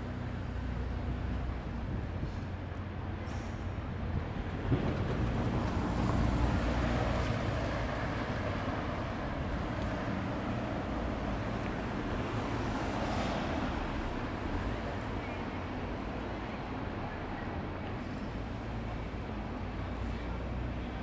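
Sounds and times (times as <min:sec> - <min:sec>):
low traffic rumble: 0:00.0 - 0:21.0.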